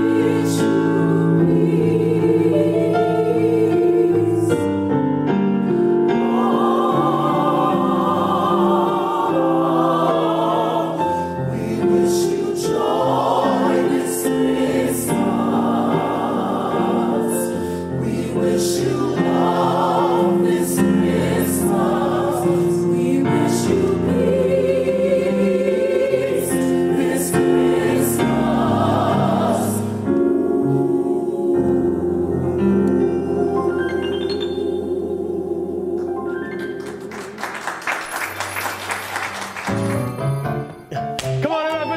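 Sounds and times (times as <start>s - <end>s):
gospel choir singing in harmony: 0.0s - 40.7s.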